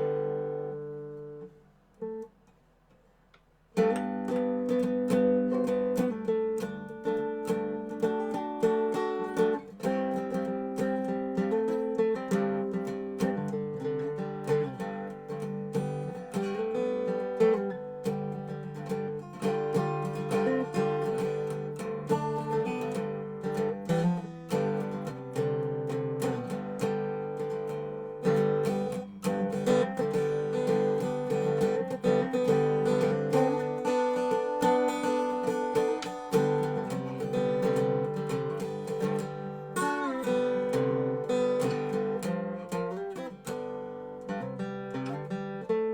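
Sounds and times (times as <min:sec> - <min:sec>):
resonator guitar blues playing: 0:00.0 - 0:02.3, 0:03.8 - 0:45.9.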